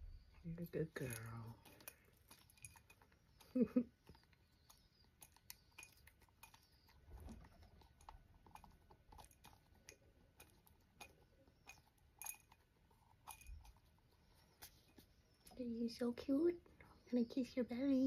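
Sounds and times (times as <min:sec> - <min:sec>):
beak pecking seeds in glass jar: 0:00.1 - 0:15.3.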